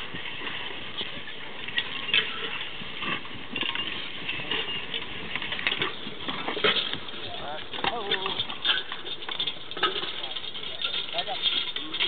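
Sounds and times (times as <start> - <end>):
steady outdoor hiss: 0.0 - 12.0
harness clinks and knocks: 0.3 - 12.0.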